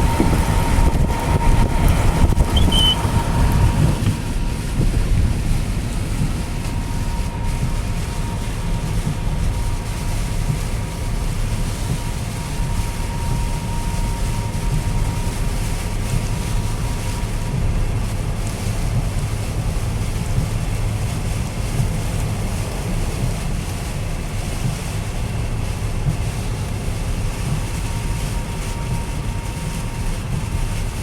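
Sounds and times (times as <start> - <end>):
heavy low rumble: 0.0 - 31.0
steady rushing noise: 0.0 - 31.0
wind buffeting microphone: 0.0 - 31.0.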